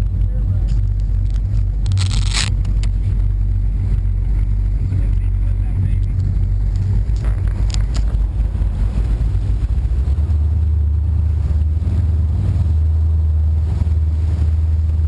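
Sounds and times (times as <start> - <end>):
powerboat engines rumbling: 0.0 - 15.0.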